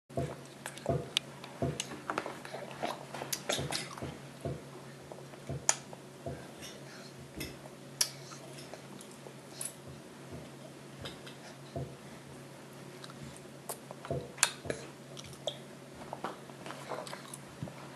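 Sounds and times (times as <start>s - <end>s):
baby chewing and smacking: 0.2s - 4.7s, 5.3s - 12.4s, 13.0s - 17.6s.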